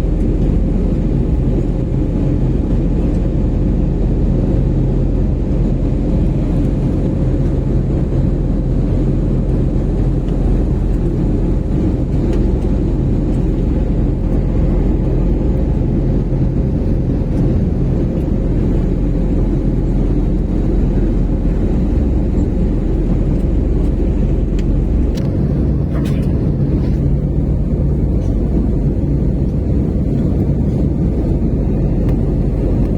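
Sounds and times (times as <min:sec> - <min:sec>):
jet engines droning: 0:00.0 - 0:32.9
rushing air: 0:03.9 - 0:32.9.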